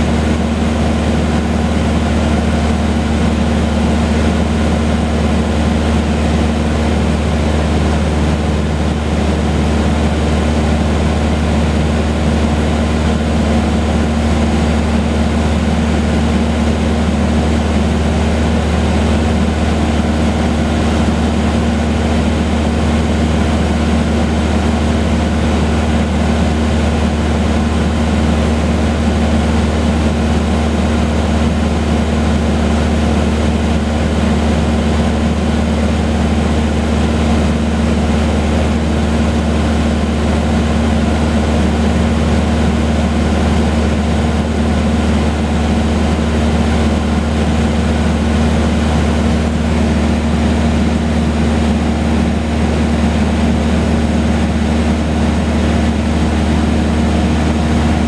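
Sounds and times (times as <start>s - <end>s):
airplane engine and propeller droning: 0.0s - 58.0s.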